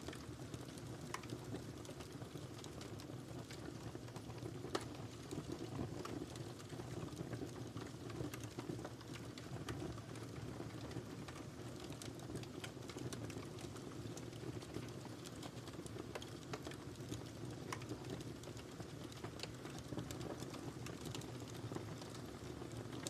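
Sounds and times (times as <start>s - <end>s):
fire crackling and popping: 0.0s - 23.0s
fire rumbling in fireplace: 0.0s - 23.0s.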